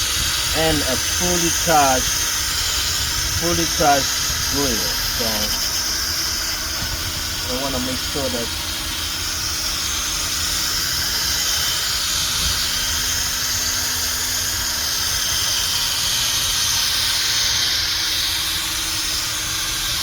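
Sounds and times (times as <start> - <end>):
drill sanding pad whirring: 0.0 - 20.0.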